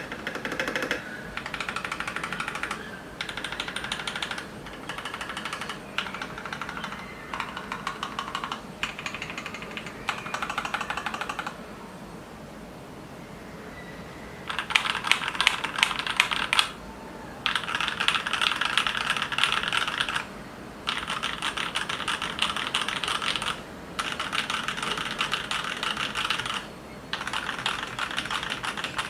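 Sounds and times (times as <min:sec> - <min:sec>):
typing on mechanical keyboard: 0:00.0 - 0:11.6, 0:14.5 - 0:16.8, 0:17.5 - 0:20.3, 0:20.9 - 0:29.0.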